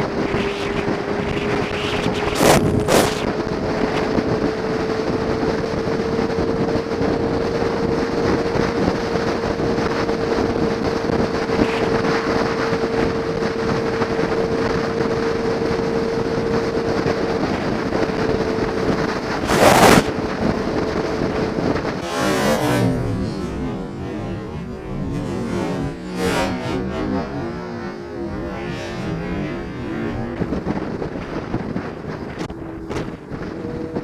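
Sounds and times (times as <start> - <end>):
motorcycle engine drone: 0.0 - 34.0
wind rushing over microphone: 0.0 - 34.0.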